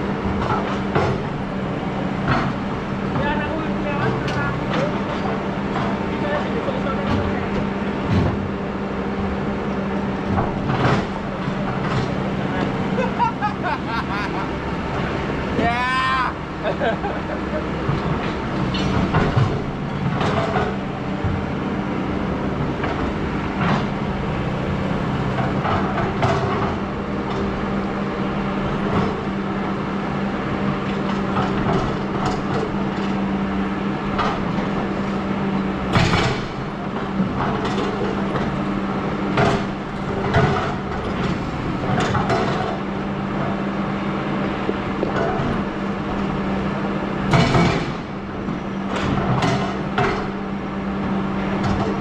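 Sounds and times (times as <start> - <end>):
machine knocks and clanks: 0.0 - 15.6, 16.5 - 52.0
excavator engine running: 0.0 - 52.0.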